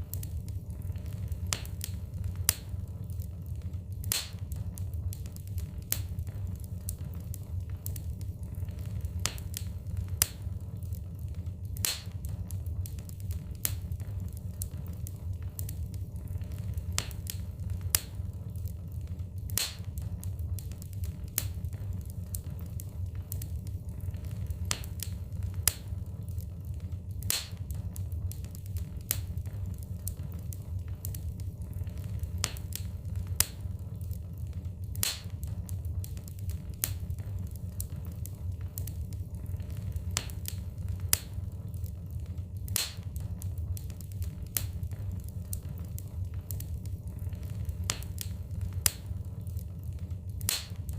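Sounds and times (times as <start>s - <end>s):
low fire rumble: 0.0s - 50.9s
wood fire crackling and popping: 0.0s - 50.9s.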